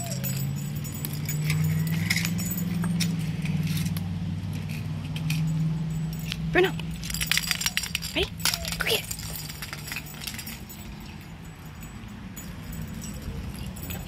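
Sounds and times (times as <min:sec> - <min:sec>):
dog collar tag jingling: 0:00.0 - 0:14.0.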